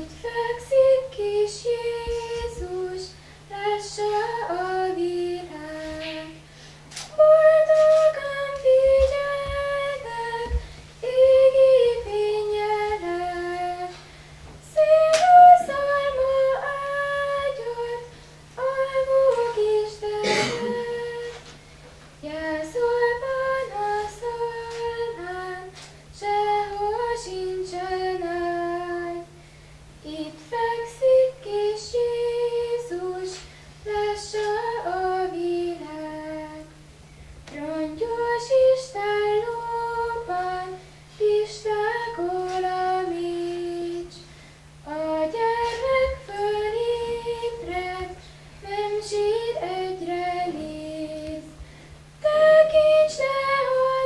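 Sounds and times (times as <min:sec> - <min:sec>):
woman singing unaccompanied: 0:00.0 - 0:21.6, 0:22.2 - 0:29.4, 0:30.0 - 0:36.8, 0:37.5 - 0:51.6, 0:52.2 - 0:54.0
low electrical hum: 0:00.0 - 0:54.0.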